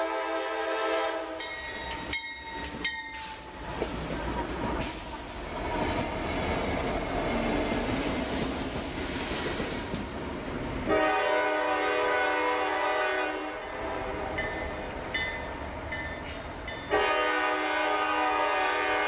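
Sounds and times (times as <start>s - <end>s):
locomotive engines rumbling: 1.3s - 19.0s.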